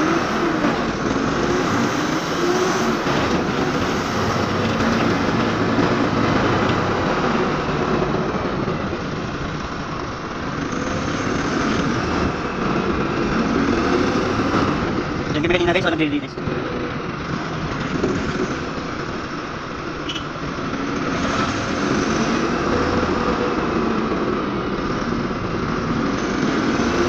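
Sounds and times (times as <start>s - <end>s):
road and wind noise: 0.0s - 27.0s
truck engine running: 0.0s - 27.0s.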